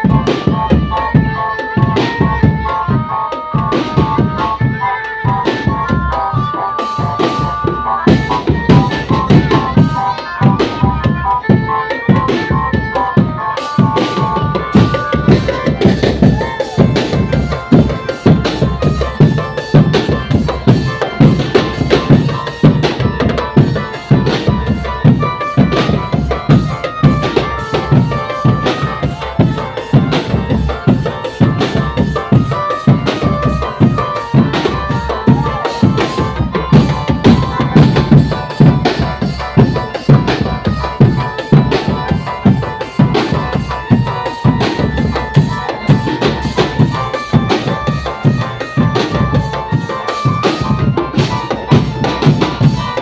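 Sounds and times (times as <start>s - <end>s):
drums playing a driving beat: 0.0s - 53.0s
high melody line: 0.0s - 53.0s.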